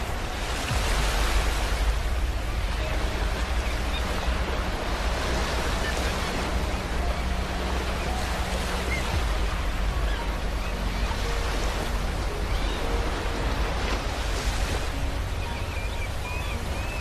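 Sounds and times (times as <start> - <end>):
ocean waves washing on beach: 0.0 - 17.0.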